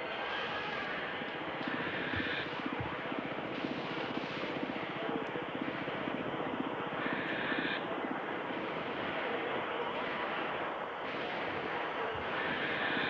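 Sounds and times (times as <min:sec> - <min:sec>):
distorted electric guitars: 0:00.0 - 0:13.0.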